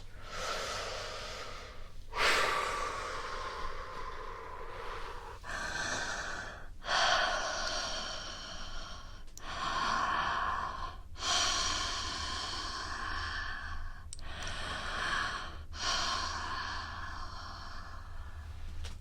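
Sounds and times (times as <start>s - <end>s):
woman breathing slowly and deeply: 0.0s - 19.0s.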